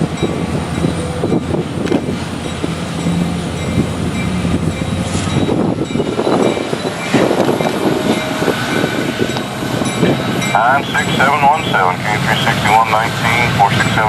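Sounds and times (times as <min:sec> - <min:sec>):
freight train cars clattering over rails: 0:00.0 - 0:14.0.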